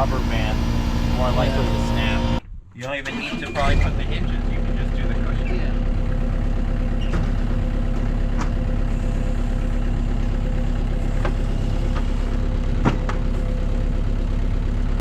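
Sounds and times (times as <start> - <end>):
engine idling: 0.0 - 2.4, 3.1 - 15.0.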